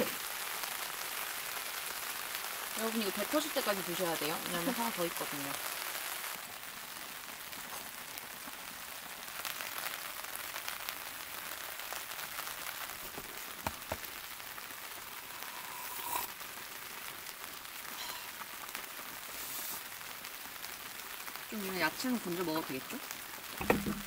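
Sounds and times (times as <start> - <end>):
rain pattering on tent: 0.0 - 24.0.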